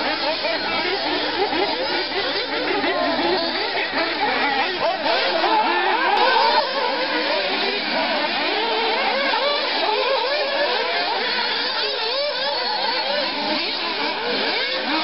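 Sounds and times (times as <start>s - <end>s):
rc car engines revving: 0.0s - 15.0s.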